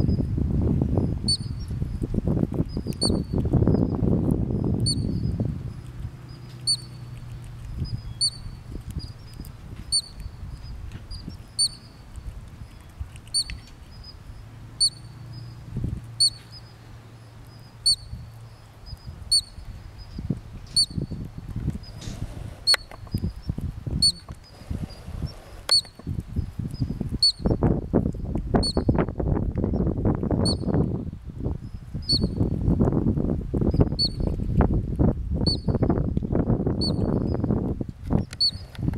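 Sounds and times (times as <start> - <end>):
ground squirrel alarm chirps: 0.9 - 22.0, 22.6 - 29.0, 29.8 - 30.8, 31.6 - 32.5, 33.7 - 34.3, 35.4 - 35.9, 36.8 - 37.6, 38.2 - 38.7.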